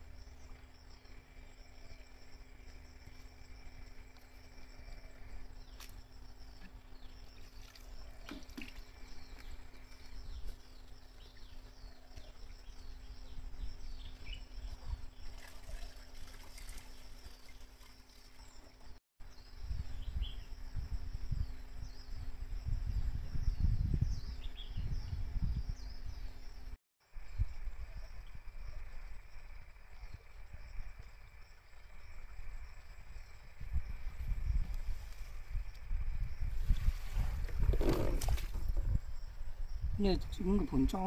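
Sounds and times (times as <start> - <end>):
wind rumble on microphone: 1.1 - 17.5, 19.2 - 41.0.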